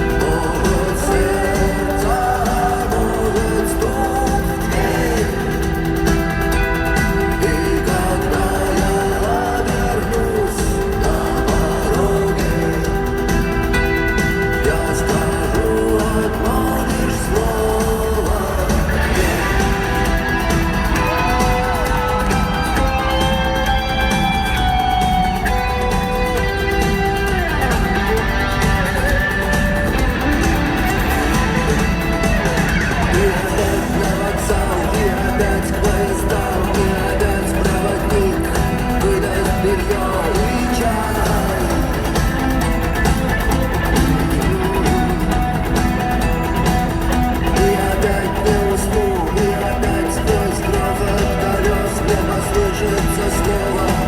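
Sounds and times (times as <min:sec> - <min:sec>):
bass and drums: 0:00.0 - 0:54.0
electric guitar lead: 0:00.0 - 0:54.0
live rock band playing: 0:00.0 - 0:54.0.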